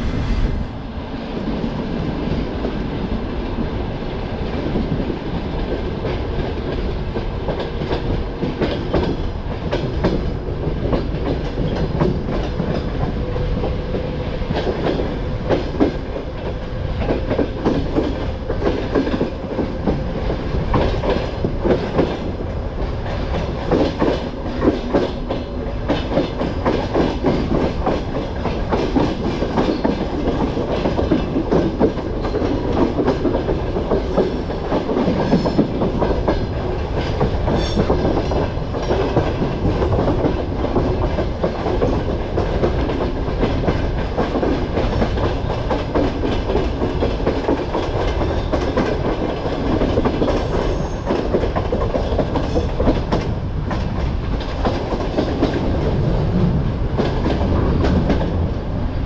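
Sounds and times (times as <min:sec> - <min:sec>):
train rolling rumble: 0:00.0 - 0:59.0.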